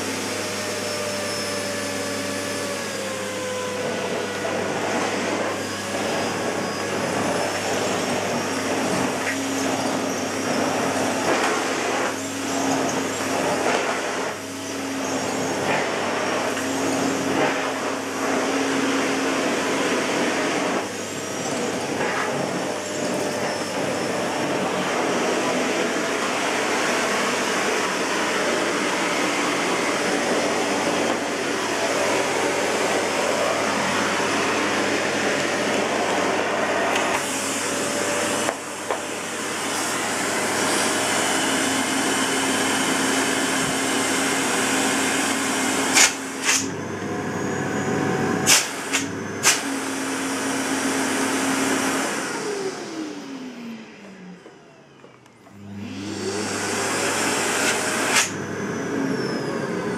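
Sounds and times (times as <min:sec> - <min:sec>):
vacuum cleaner running: 0:00.0 - 0:59.9
vacuum motor winding down: 0:00.0 - 0:59.9.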